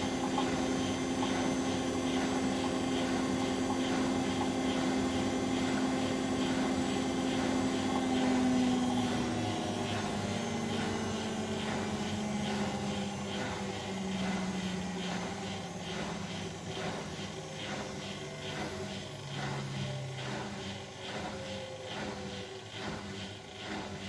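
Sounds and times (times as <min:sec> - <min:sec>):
washing machine drum spinning: 0:00.0 - 0:24.0.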